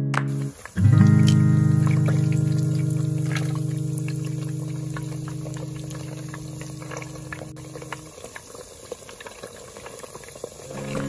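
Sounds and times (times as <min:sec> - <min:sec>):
eggs frying in hot oil: 0:00.3 - 0:11.0.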